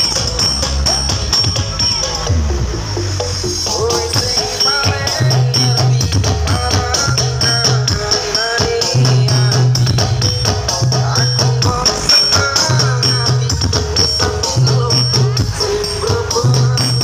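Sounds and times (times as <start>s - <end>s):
loud music over sound system: 0.0s - 17.0s.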